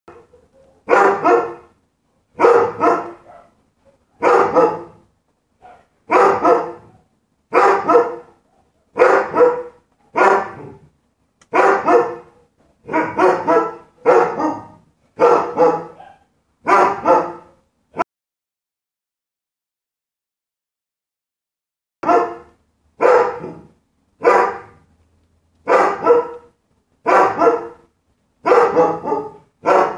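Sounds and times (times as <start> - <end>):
dog barking: 0.1 - 10.9, 11.5 - 17.6, 22.0 - 24.9, 25.6 - 29.9.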